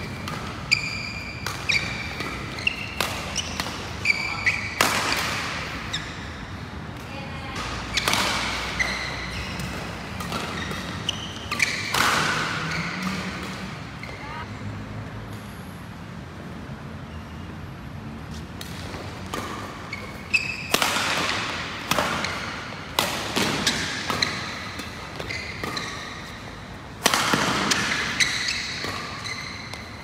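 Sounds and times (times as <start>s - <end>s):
rackets striking shuttlecock: 0.0s - 5.9s, 7.0s - 14.2s, 18.5s - 30.0s.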